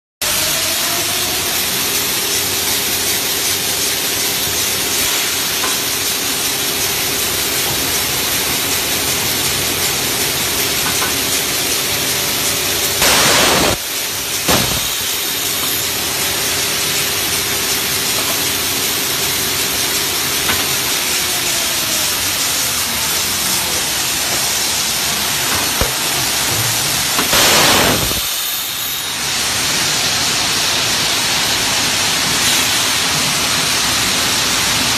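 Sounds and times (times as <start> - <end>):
loud burst of hiss: 0.3 - 34.9
tape slitting machine hiss: 0.3 - 34.9.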